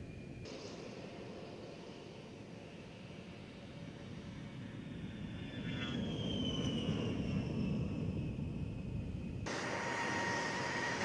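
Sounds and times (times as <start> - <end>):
jet engines whining on takeoff: 0.0 - 11.0
steady jet whine: 0.0 - 11.0.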